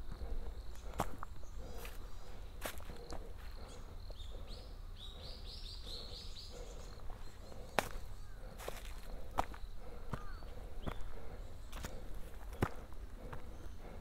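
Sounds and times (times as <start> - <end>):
footsteps on forest trail: 0.0 - 14.0
small bird chirping: 0.3 - 12.9.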